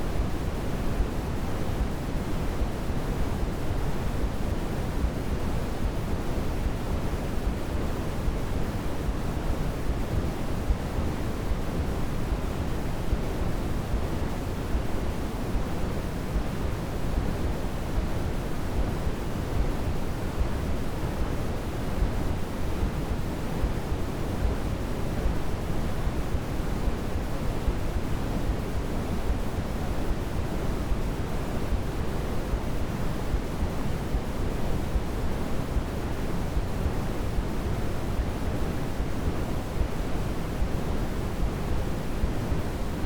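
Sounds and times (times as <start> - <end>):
steady white noise hiss: 0.0 - 43.0.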